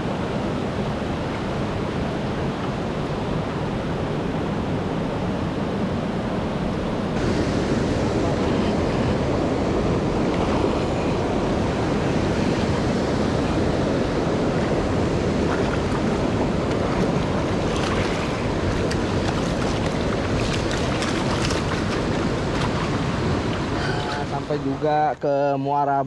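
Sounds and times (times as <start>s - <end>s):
river water rushing: 0.0s - 25.1s
wind buffeting microphone: 0.0s - 25.1s.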